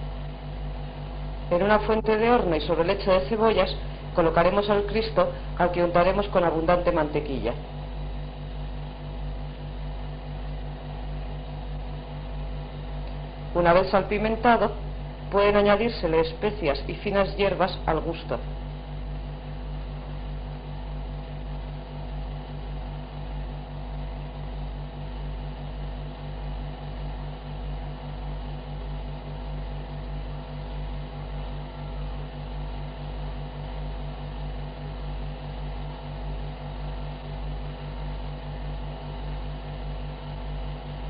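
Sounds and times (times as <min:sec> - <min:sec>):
low hum with held tones: 0:00.0 - 0:41.0.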